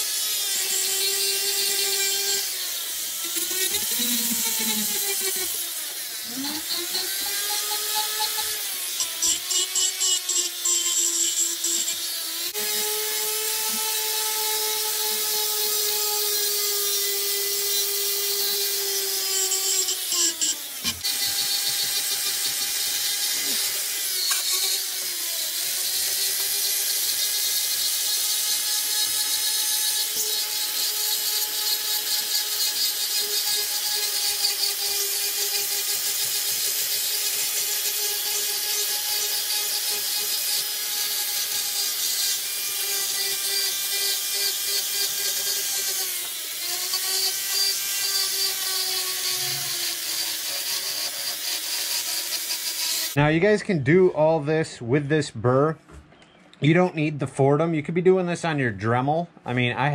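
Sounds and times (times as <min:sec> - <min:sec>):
rotary tool motor whine: 0:00.0 - 0:53.2.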